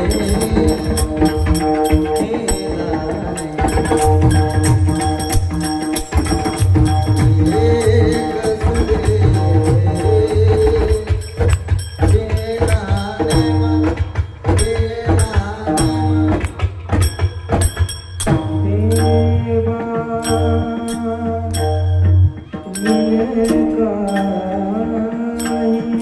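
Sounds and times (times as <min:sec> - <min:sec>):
ringing cymbal clashes: 0:00.0 - 0:26.0.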